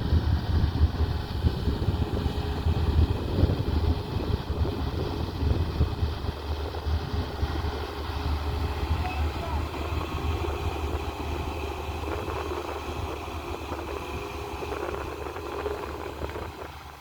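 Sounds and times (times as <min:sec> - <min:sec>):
excavator diesel engine rumbling: 0:00.0 - 0:17.0.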